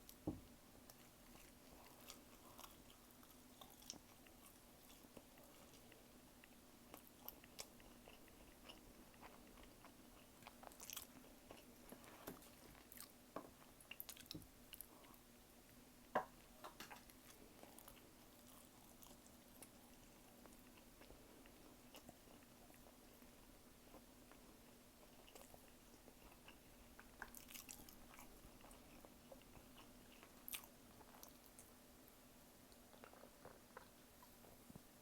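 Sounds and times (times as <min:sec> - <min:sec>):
person chewing food: 0:00.0 - 0:31.8, 0:32.7 - 0:34.6
faint steady hum: 0:00.0 - 0:35.0.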